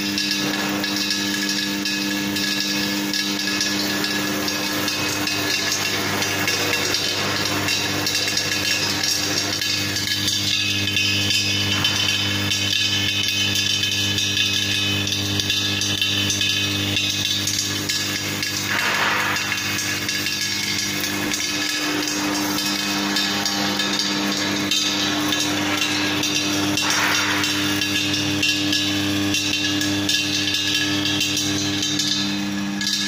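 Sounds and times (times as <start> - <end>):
motor hum: 0.0 - 33.0
oil press clattering: 0.2 - 32.2.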